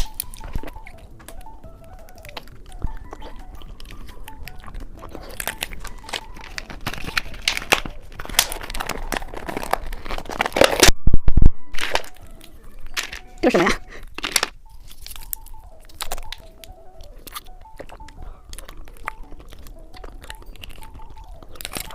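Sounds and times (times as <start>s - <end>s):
candy crunching being chewed: 0.0s - 11.0s, 11.7s - 21.9s.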